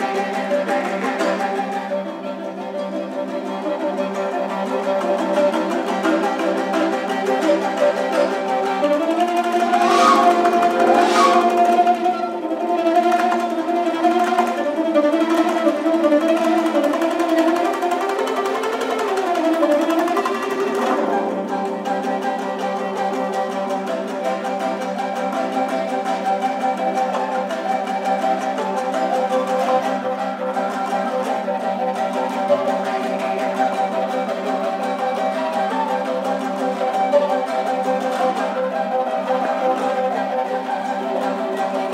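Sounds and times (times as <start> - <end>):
folk string ensemble with flute: 0.0 - 41.9.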